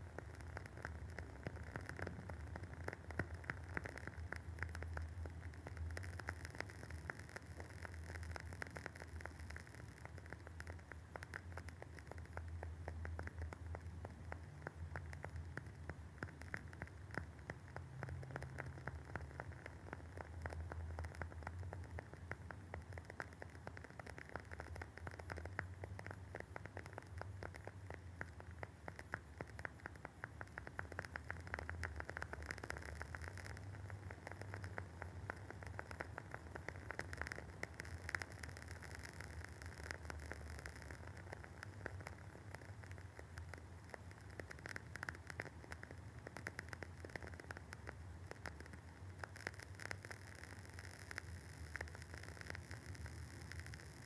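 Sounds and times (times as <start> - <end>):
candle wick crackling: 0.0 - 54.0
faint hiss: 0.0 - 54.0.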